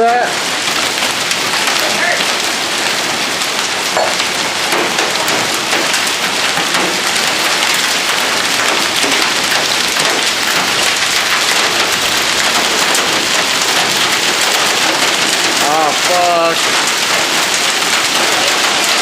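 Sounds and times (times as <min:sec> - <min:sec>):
heavy rain and hail: 0:00.0 - 0:19.0.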